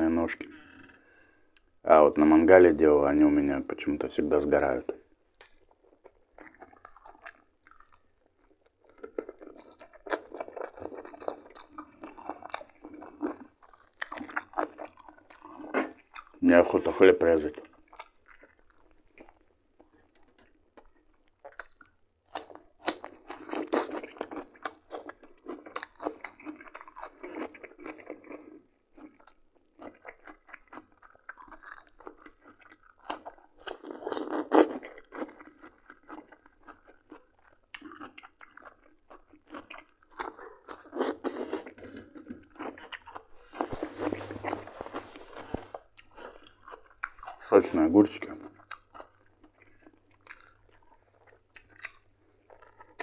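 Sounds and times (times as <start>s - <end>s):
chewing and crunching cucumber: 0.4s - 53.0s.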